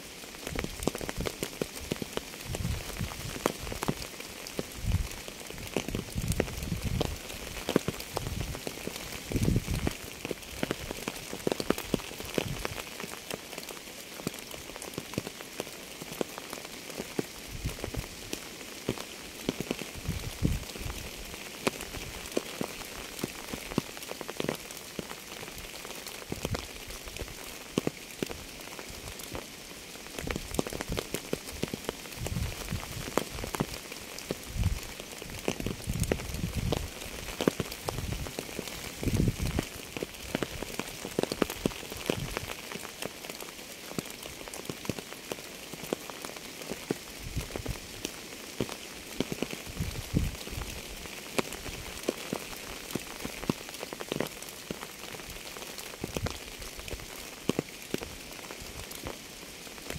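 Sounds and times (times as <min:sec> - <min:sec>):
rain drops ticking: 0:00.0 - 0:59.9.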